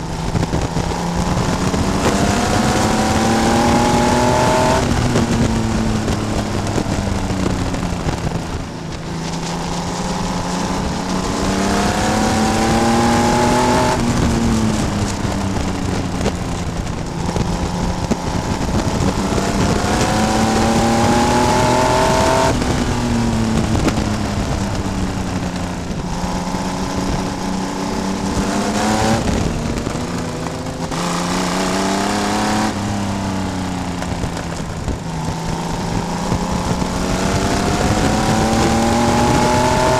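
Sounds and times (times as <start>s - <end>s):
race car engine revving: 0.0s - 8.4s, 9.1s - 39.9s
wind and road noise: 0.0s - 39.9s.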